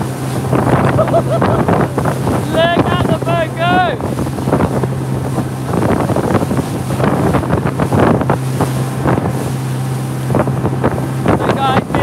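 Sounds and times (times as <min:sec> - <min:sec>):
hull slapping waves: 0:00.0 - 0:12.0
motorboat engine hum: 0:00.0 - 0:12.0
wind buffeting microphone: 0:00.0 - 0:12.0.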